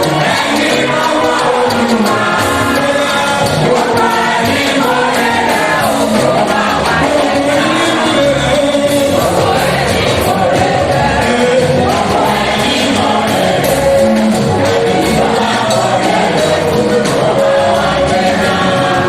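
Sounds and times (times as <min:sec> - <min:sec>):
choir singing gospel: 0:00.0 - 0:19.0
instrumental accompaniment: 0:00.0 - 0:19.0.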